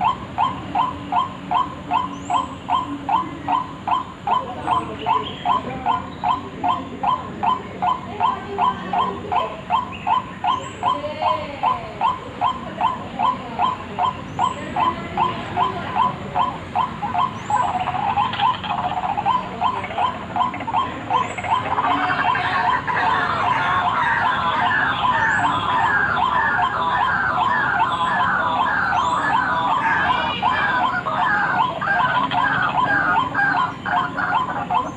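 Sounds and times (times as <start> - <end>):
bird calling monotonously: 0.0 - 34.9.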